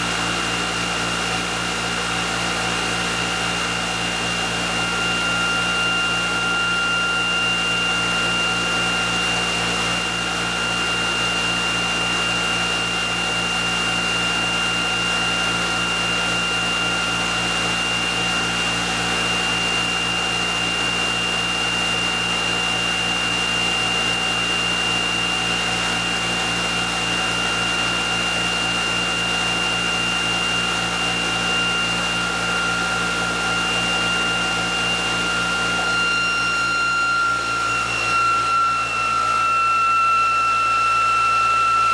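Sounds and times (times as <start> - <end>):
electric motor whirring and whining: 0.0 - 41.9.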